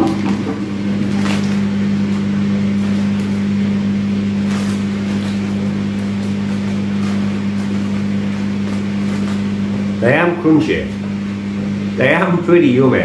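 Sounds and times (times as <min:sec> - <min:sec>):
loud steady low hum: 0:00.0 - 0:13.0.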